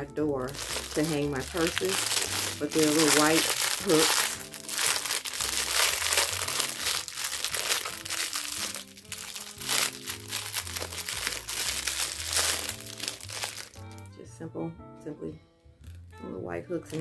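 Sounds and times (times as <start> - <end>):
plastic bag crinkling: 0.0 - 14.1
quiet background music: 0.0 - 17.0.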